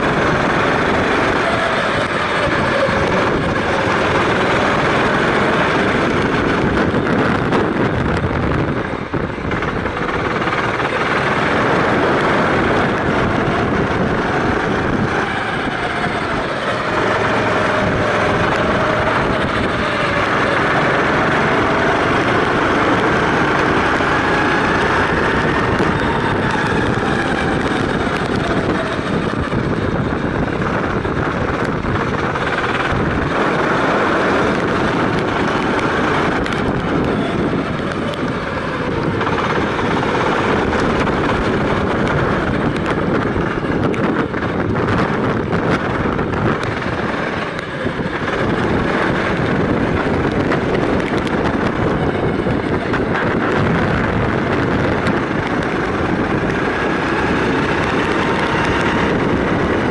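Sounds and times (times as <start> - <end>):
kart engine running: 0.0 - 59.9
wind and road noise: 0.0 - 59.9.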